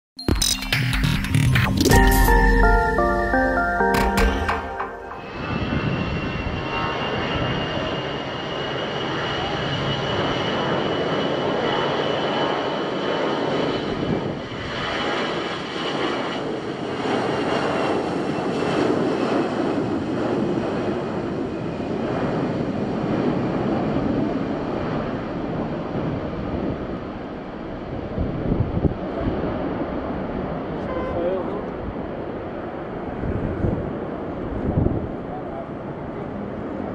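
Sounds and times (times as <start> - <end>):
jet engines rumbling at takeoff: 5.3 - 36.9.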